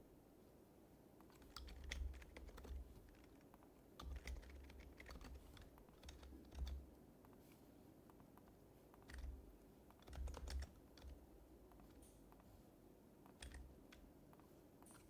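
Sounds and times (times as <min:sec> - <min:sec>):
faint keyboard typing: 0:01.1 - 0:15.0.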